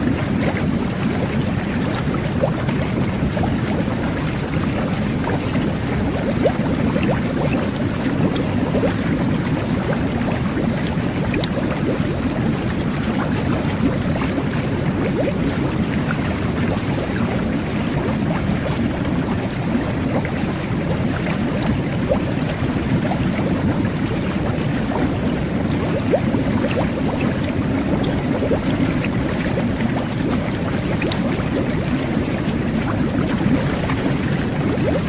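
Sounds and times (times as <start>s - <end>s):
bubble pops: 0.0s - 35.0s
whirlpool tub jets churning: 0.0s - 35.0s.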